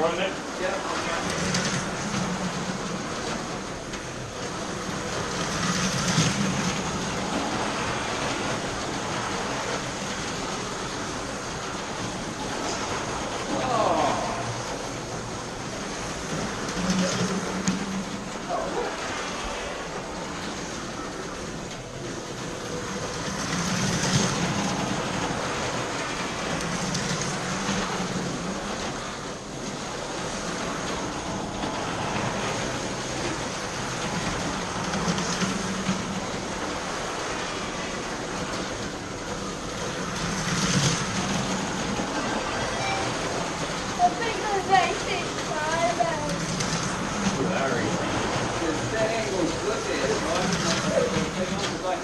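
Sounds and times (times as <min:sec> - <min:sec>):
slot cars whirring on track: 0:00.0 - 0:52.0.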